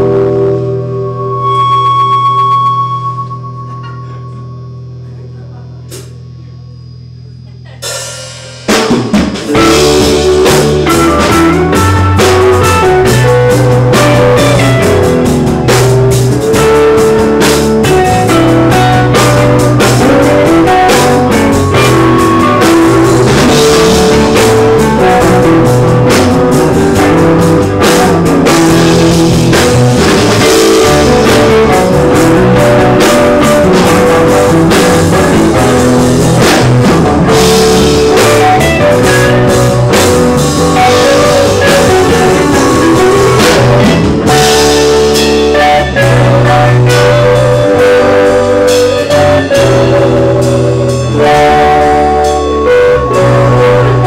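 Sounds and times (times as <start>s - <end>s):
rock band playing: 0.0s - 6.2s, 7.6s - 54.0s.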